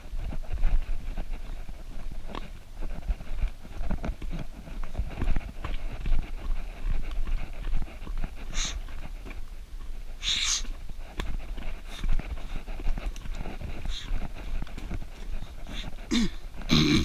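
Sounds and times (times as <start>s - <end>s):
runner breathing hard: 0.0s - 16.7s
low camera rumble: 0.0s - 17.0s.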